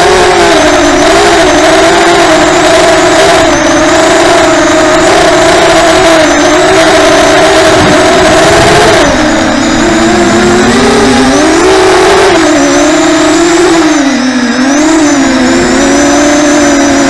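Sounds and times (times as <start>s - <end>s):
high whine: 0.0s - 17.0s
quadcopter motors buzzing: 0.0s - 17.0s.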